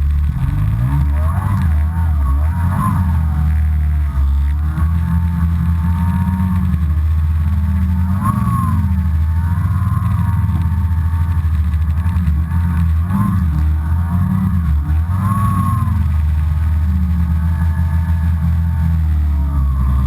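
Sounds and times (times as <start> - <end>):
snowmobile engine running and revving: 0.0 - 20.0.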